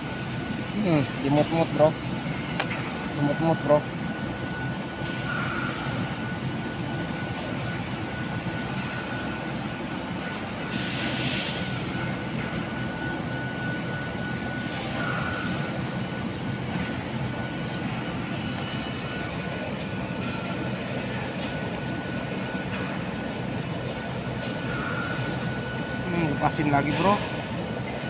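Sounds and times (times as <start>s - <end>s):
low mechanical drone with whine: 0.0s - 28.0s.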